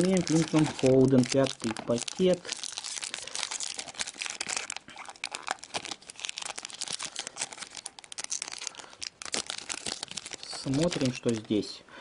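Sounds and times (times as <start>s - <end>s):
foil wrapper tearing and crinkling: 0.0s - 11.6s.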